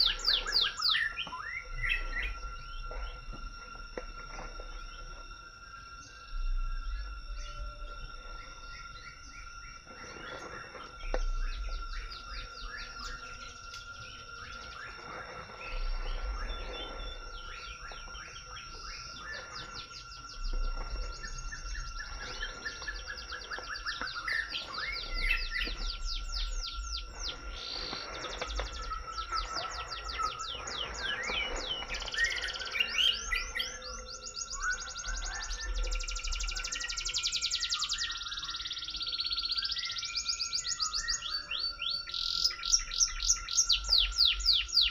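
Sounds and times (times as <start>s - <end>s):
birds chirping falling calls: 0.0s - 44.9s
high insect drone: 0.0s - 44.9s.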